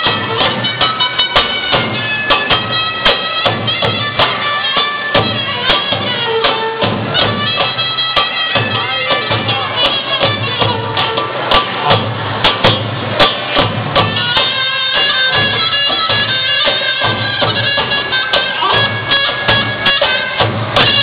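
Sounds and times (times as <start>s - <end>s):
percussion beat: 0.0s - 21.0s
reed wind instrument melody: 0.0s - 21.0s.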